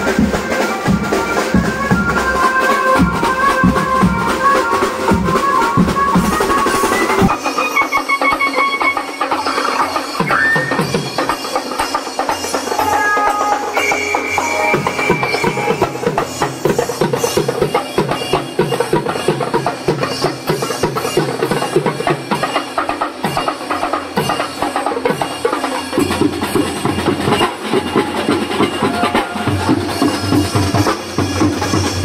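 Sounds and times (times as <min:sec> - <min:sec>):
fast drumming and percussion: 0:00.0 - 0:32.0.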